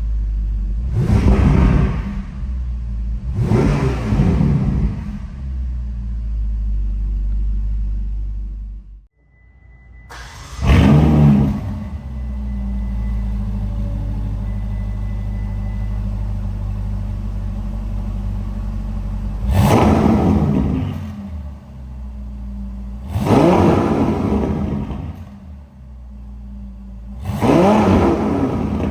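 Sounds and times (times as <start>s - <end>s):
car engine revving: 0.0s - 8.9s, 10.1s - 28.9s
car engine idling: 0.0s - 9.1s, 10.0s - 28.9s.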